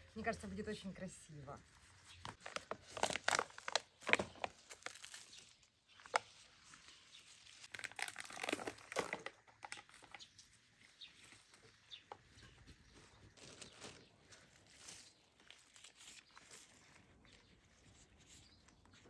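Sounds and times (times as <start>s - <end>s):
soil crunching: 1.6s - 19.0s
plastic bag rustling and crinkling: 1.7s - 19.0s.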